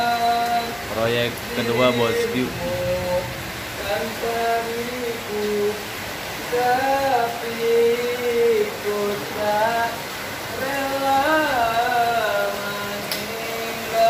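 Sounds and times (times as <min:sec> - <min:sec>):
man singing unaccompanied: 0:00.0 - 0:14.0.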